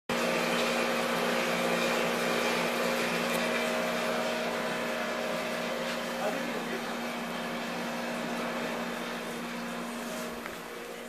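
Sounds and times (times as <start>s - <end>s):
mechanical hum: 0.1s - 11.0s.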